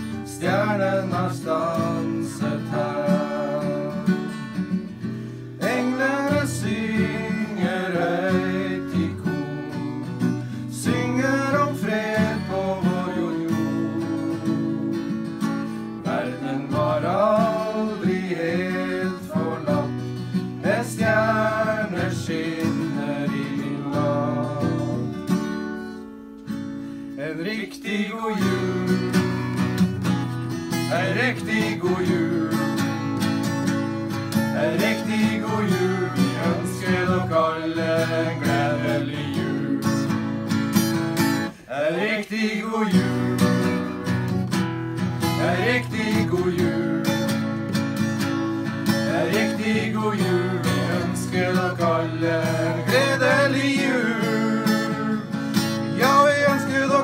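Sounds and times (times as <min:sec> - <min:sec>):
person singing a christmas song: 0:00.0 - 0:04.8, 0:05.5 - 0:25.6, 0:27.1 - 0:29.8, 0:30.7 - 0:40.6, 0:41.4 - 0:44.5, 0:45.2 - 0:47.8, 0:48.5 - 0:57.0
strummed acoustic guitar: 0:00.0 - 0:57.0.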